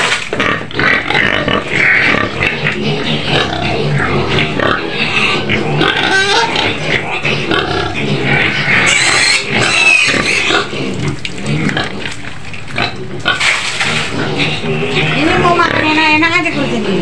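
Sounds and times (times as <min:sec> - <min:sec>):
pigs grunting and squealing: 0:00.0 - 0:17.0.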